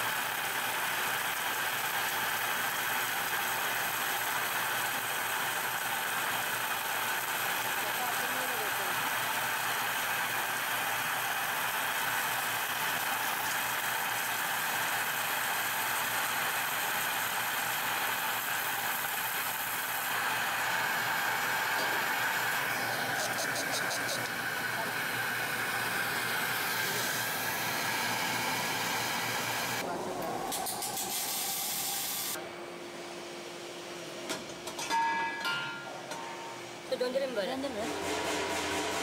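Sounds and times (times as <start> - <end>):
welding machine hum and hiss: 0.0 - 34.9, 36.5 - 39.0.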